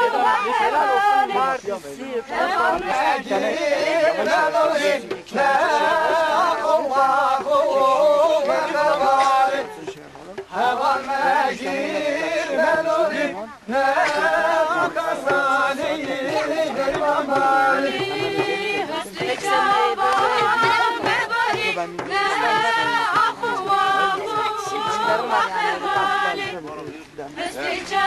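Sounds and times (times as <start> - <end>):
group singing folk song: 0.0 - 28.0.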